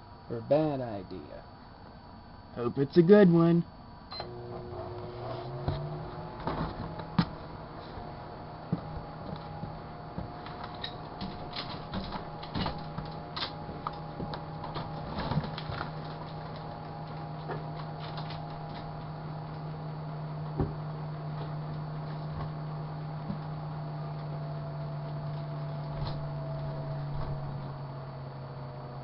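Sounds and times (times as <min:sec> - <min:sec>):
microwave oven humming: 0:00.0 - 0:29.0.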